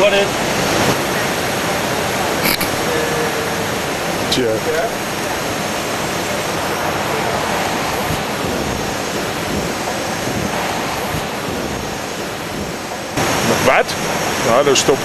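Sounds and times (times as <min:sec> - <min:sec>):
airplane cockpit rushing noise: 0:00.0 - 0:15.0.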